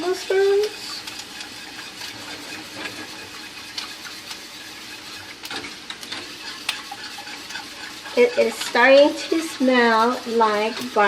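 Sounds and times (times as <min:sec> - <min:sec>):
sauce simmering with sizzling hiss: 0:00.0 - 0:11.0
whisk ticking against pot: 0:00.0 - 0:11.0.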